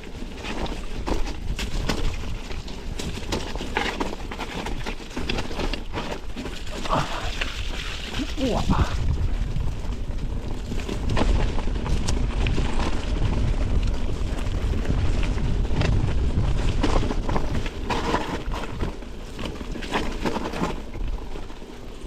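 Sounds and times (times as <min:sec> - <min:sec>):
bike knocks and rattles: 0:00.0 - 0:22.0
low wind rumble on microphone: 0:00.0 - 0:22.0.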